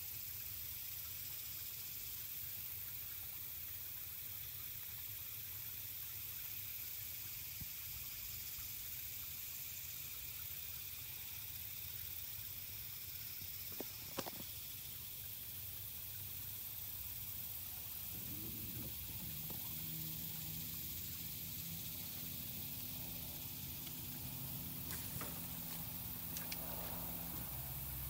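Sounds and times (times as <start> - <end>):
background hiss: 0.0 - 28.0.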